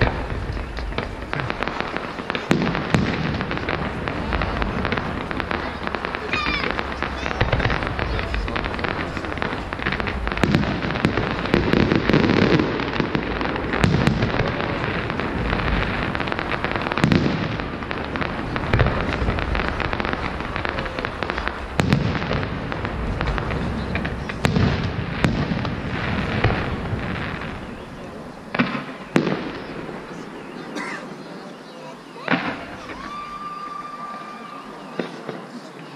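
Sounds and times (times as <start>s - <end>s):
fireworks booming: 0.0s - 31.4s, 32.1s - 35.9s
fireworks crackling and popping: 0.0s - 35.9s.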